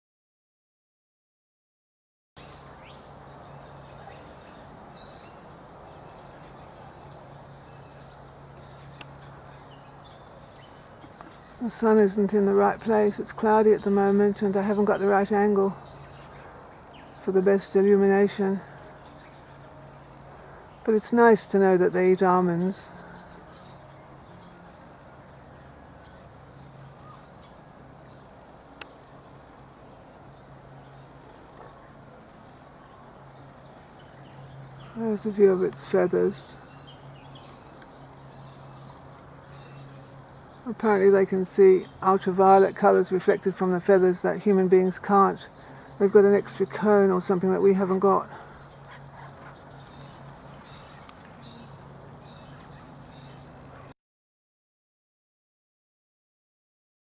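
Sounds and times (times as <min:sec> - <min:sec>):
steady low hum: 0:02.4 - 0:53.9.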